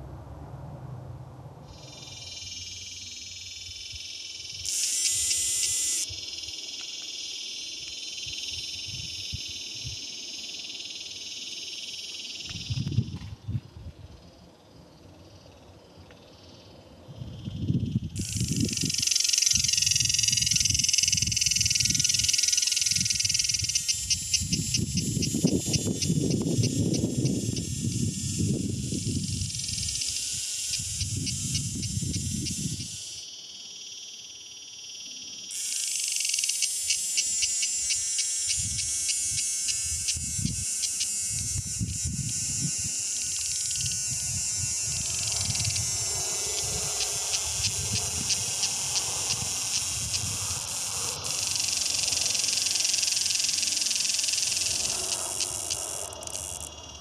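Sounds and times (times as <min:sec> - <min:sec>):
cicada buzzing: 0:01.6 - 0:57.0.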